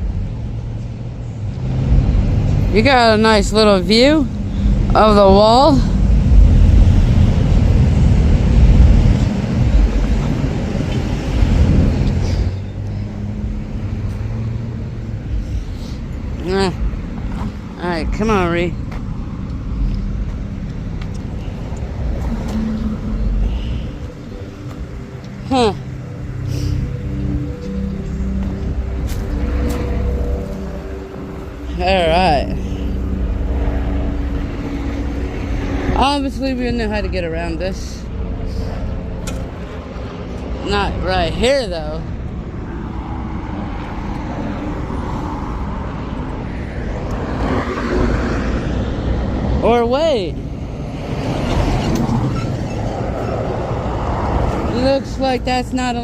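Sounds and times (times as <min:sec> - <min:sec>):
highway traffic rushing: 0:00.0 - 0:56.0
vehicle passing close: 0:00.0 - 0:56.0.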